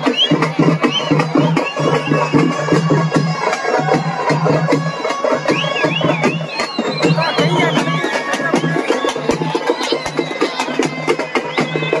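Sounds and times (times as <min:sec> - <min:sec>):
fast dense drumming: 0:00.0 - 0:12.0
high wind-instrument melody: 0:00.0 - 0:12.0.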